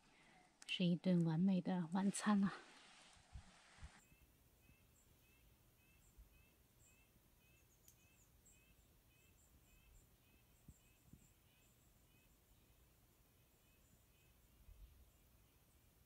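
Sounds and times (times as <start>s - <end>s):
faint forest ambience: 0.0s - 16.0s.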